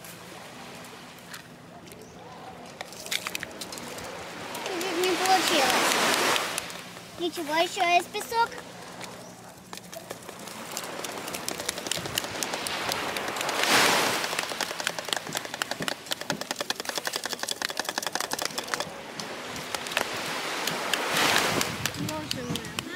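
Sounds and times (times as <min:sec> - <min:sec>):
sand trickling: 0:03.1 - 0:09.0, 0:09.8 - 0:22.9.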